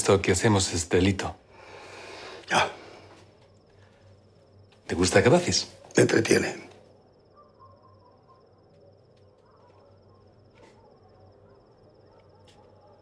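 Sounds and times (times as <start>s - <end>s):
cricket trill: 0.0s - 13.0s.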